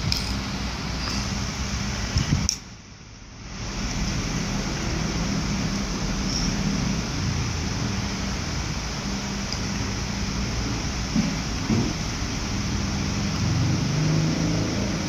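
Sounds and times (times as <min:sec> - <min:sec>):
machine hum and hiss: 0:00.0 - 0:15.0.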